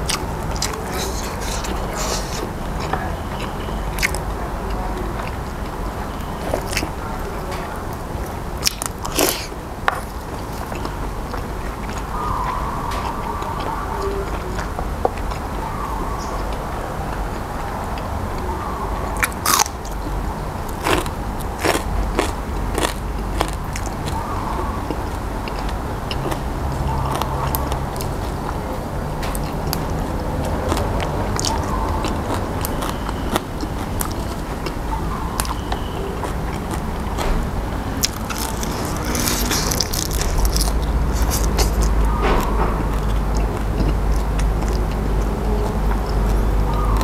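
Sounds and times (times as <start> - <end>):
crunching and chewing vegetables: 0.0 - 47.0.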